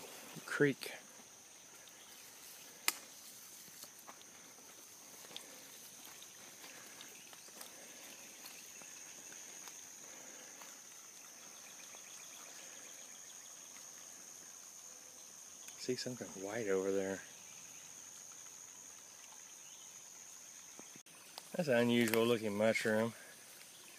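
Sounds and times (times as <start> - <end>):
insects droning: 0.0 - 23.9.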